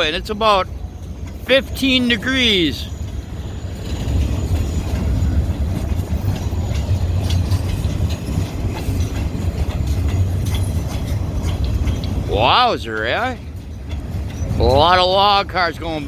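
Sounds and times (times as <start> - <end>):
train rumbling past: 0.0 - 16.0
wheels clicking over rail joints: 0.0 - 16.0.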